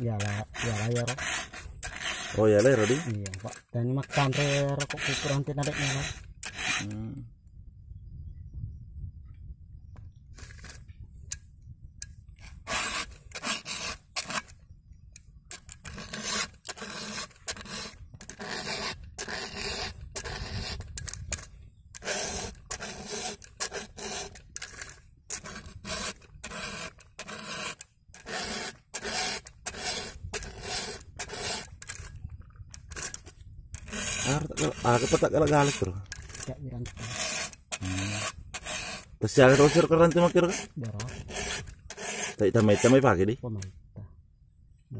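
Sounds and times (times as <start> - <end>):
file rasping on chain: 0.0 - 7.0, 12.5 - 14.6, 15.5 - 43.2.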